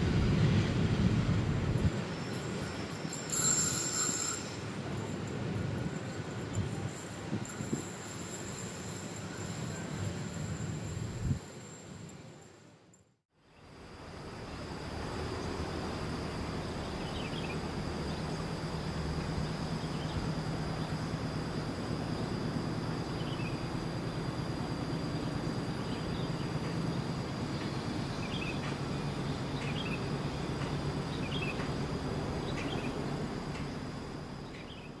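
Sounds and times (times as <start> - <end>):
high insect drone: 1.9 - 35.0.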